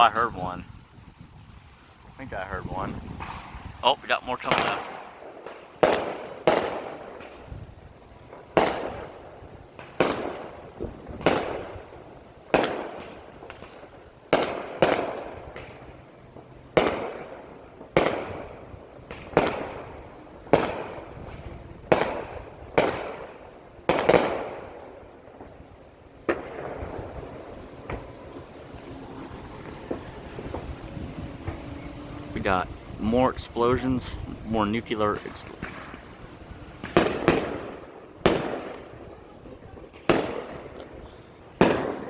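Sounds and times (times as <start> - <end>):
rolling echo of booms: 2.3 - 31.6, 32.4 - 42.0
firework shells booming: 2.6 - 42.0.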